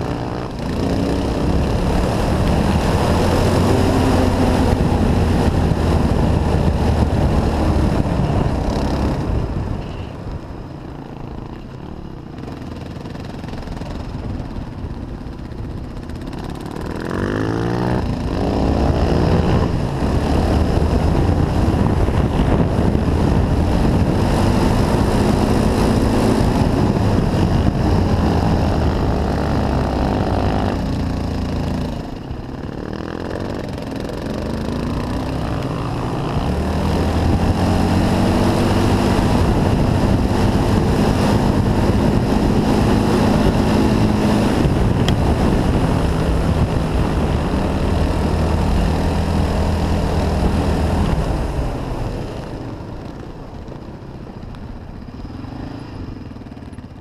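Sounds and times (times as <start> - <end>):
quad bike engine revving: 0.0 - 9.9, 11.1 - 53.9.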